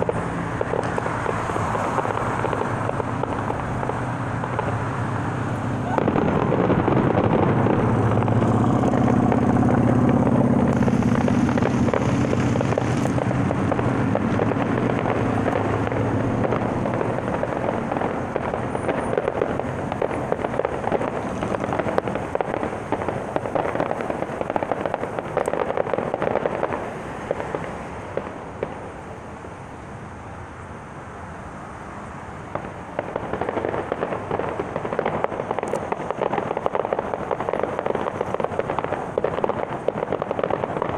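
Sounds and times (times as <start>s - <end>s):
distant fireworks bangs and crackles: 0.0s - 29.6s, 32.4s - 40.9s
vehicle engine hum: 0.0s - 40.9s.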